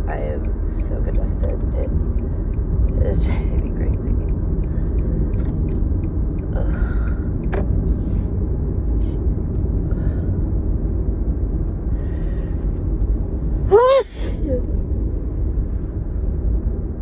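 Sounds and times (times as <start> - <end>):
road rumble inside a car: 0.0 - 17.0.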